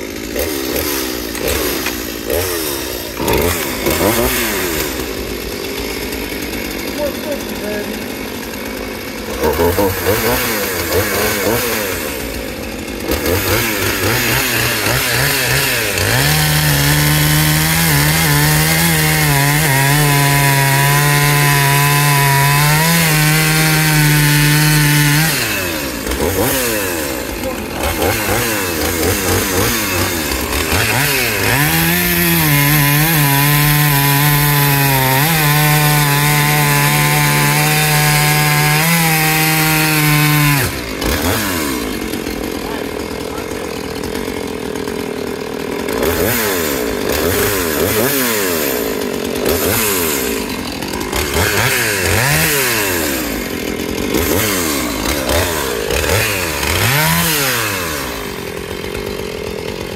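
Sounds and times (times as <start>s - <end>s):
chainsaw revving and cutting: 0.0s - 59.9s.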